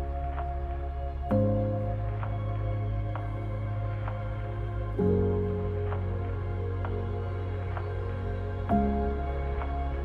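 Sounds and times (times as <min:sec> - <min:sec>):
ambient background music: 0:00.0 - 0:10.0.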